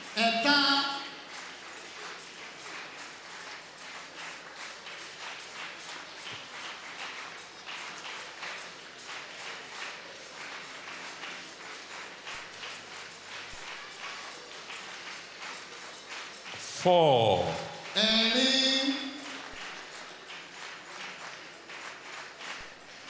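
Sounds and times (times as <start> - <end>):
crowd moving about: 0.0 - 23.0.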